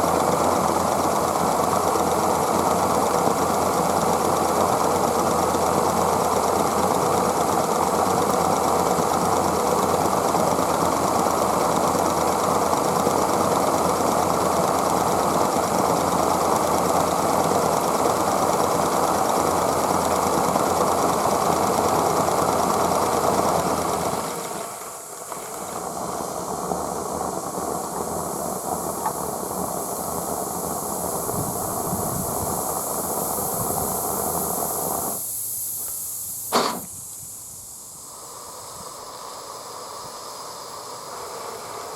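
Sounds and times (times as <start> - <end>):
model steam locomotive running: 0.0 - 41.9.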